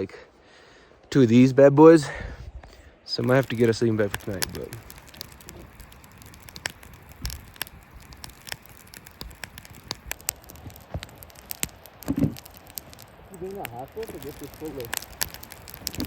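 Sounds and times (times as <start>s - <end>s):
campfire crackling and popping: 2.2s - 16.0s.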